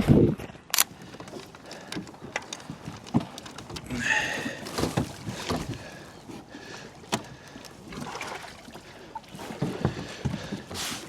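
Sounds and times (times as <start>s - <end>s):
kayak knocks and clunks: 0.9s - 11.0s.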